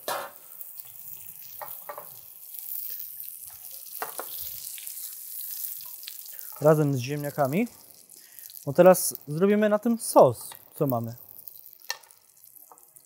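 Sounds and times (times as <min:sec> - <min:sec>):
fat sizzling in a frying pan: 0:00.0 - 0:13.0.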